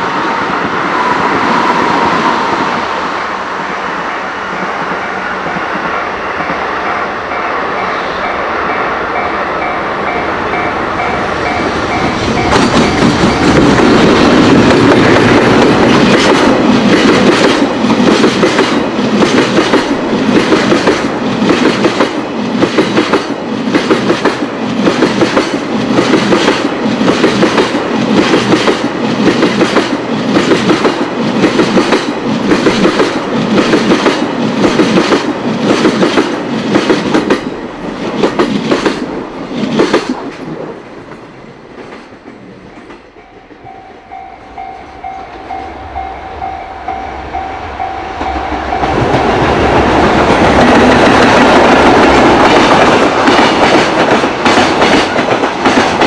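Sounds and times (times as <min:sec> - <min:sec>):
freight train arriving: 0:00.0 - 0:56.0
freight train wheels clattering: 0:04.5 - 0:40.5, 0:41.7 - 0:56.0.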